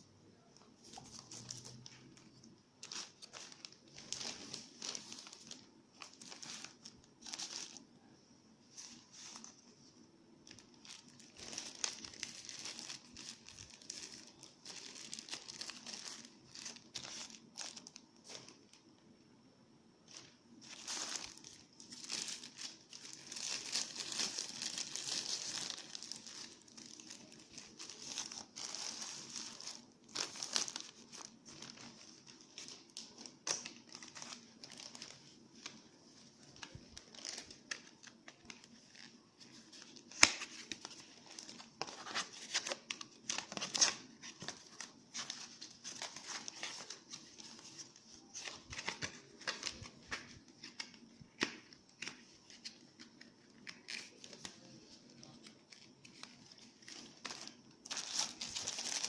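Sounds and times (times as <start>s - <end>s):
plastic packaging crinkling and tearing: 0.5s - 7.9s, 10.4s - 18.8s, 20.1s - 59.0s.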